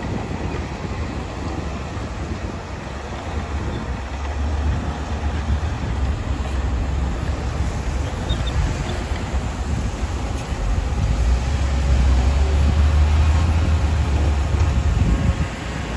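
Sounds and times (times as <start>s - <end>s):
bulldozer diesel engine rumbling: 0.0s - 15.9s.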